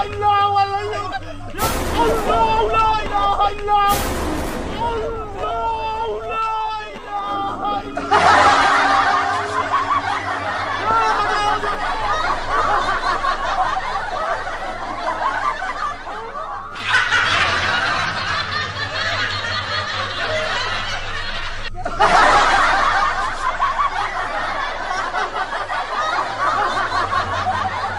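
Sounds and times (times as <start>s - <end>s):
people laughing and snickering: 0.0s - 27.9s.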